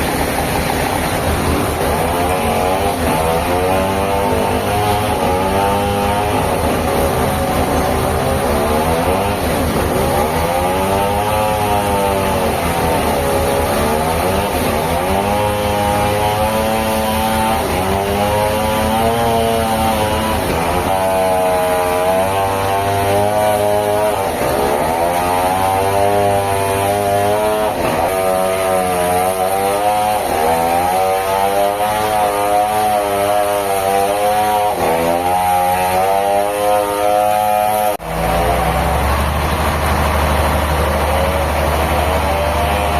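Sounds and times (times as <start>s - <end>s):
sawmill saw running: 0.0s - 42.9s.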